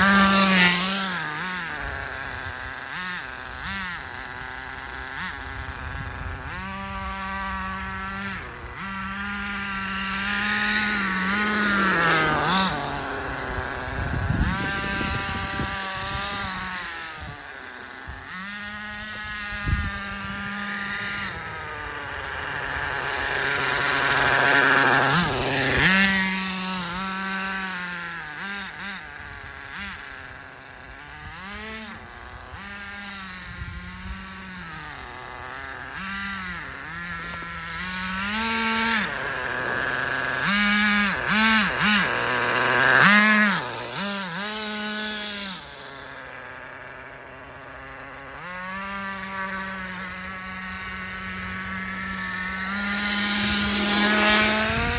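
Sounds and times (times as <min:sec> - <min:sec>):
small nitro engine revving: 0:00.0 - 0:54.9.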